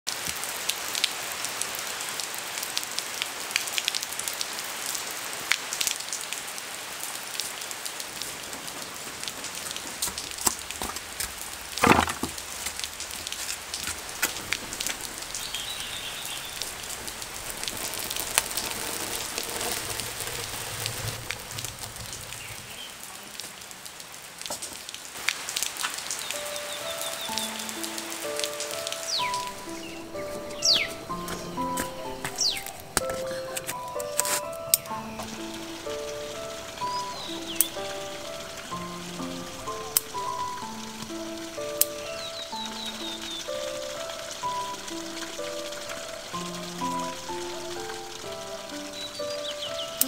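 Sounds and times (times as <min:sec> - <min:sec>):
drips and splashes: 0:00.1 - 0:50.0
steady rain: 0:00.1 - 0:50.0.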